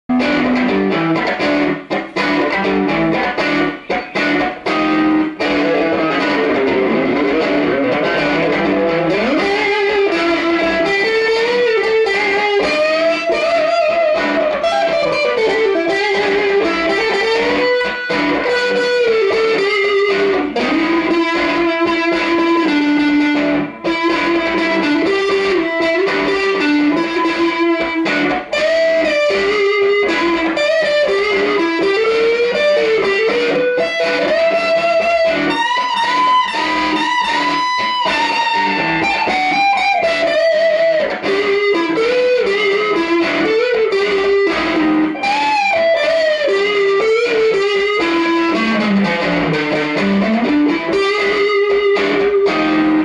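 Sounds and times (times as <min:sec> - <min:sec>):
electric guitar playing: 0:00.0 - 0:53.0.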